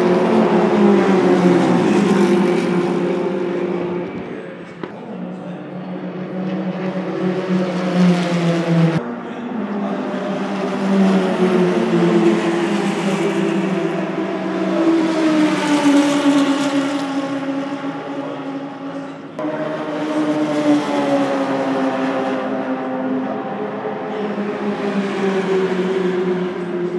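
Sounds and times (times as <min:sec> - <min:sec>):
race car engines passing: 0:00.0 - 0:26.9.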